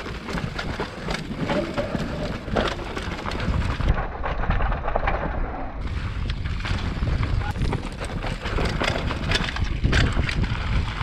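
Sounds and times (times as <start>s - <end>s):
bike knocking and rattling: 0.0s - 11.0s
bike tyres crunching over dirt: 0.0s - 11.0s
wind on microphone: 0.0s - 11.0s.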